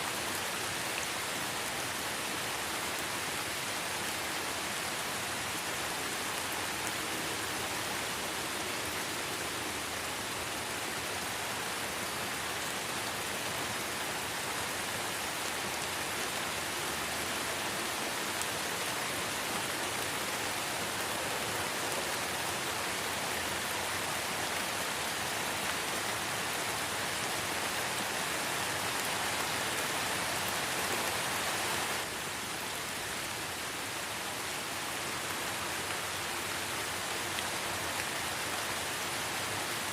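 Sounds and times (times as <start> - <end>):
light rain on leaves: 0.0 - 39.9.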